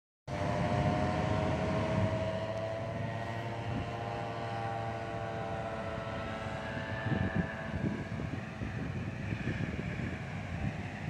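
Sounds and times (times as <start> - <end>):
paramotor engine droning overhead: 0.3 - 11.0.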